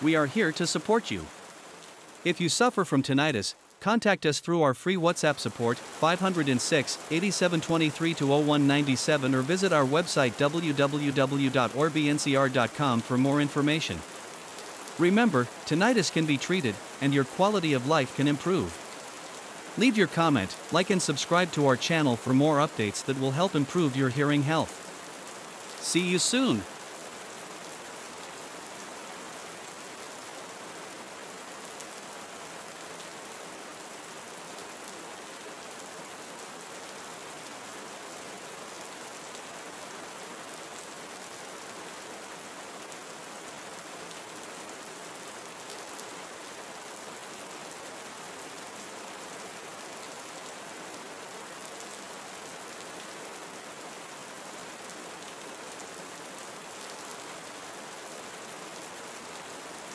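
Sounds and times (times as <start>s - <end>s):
rain falling on forest: 0.0s - 59.9s.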